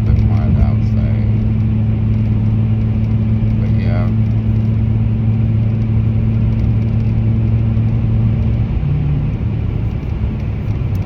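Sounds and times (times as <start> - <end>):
car engine hum: 0.0 - 11.0
road rumble inside car: 0.0 - 11.0.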